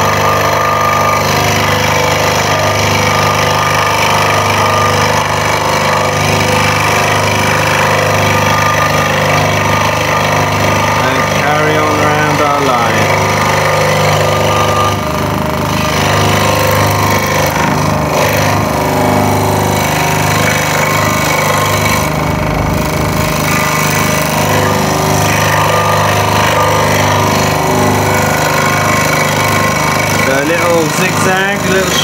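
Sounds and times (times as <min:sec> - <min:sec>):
scroll saw cutting wood: 0:00.0 - 0:32.0.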